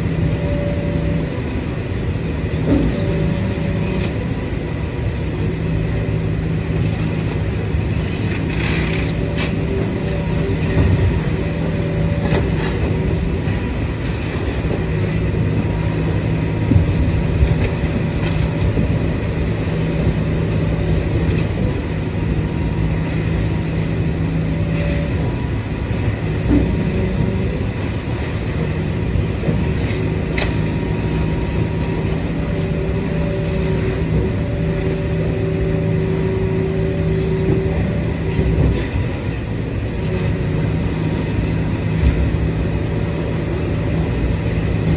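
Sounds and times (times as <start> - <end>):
baler machine hum: 0.0 - 44.9.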